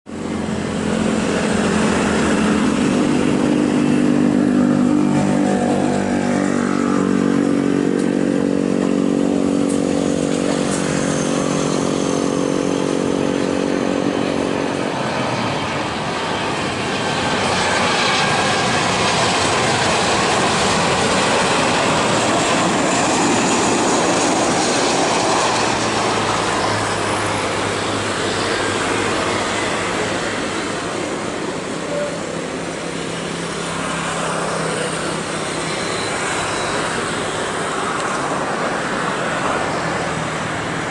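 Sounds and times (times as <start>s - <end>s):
jet airliner engines passing close: 0.1s - 40.9s.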